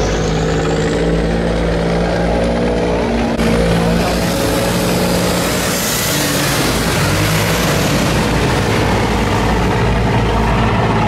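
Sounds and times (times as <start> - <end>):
boat engines running: 0.0 - 11.0
loud rushing noise: 0.0 - 11.0.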